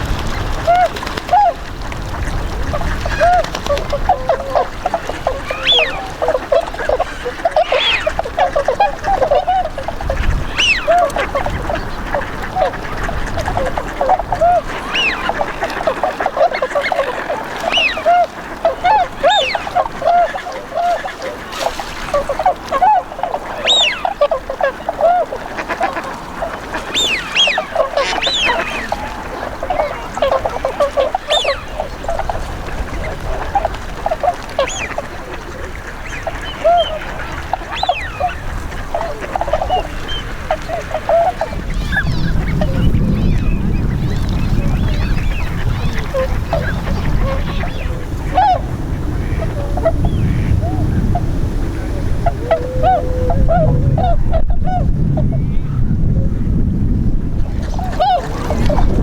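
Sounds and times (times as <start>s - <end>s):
swans honking: 0.0s - 54.4s, 57.6s - 59.0s.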